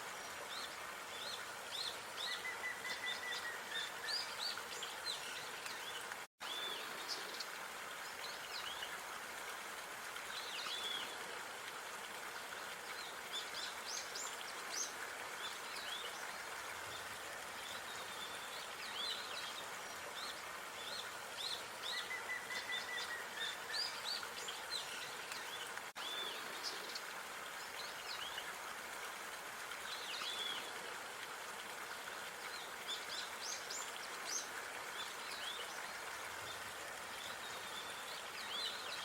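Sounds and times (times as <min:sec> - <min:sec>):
songbirds chirping and twittering: 0:00.0 - 0:11.3, 0:12.4 - 0:28.6, 0:29.6 - 0:39.0
outdoor background hiss: 0:00.0 - 0:39.0.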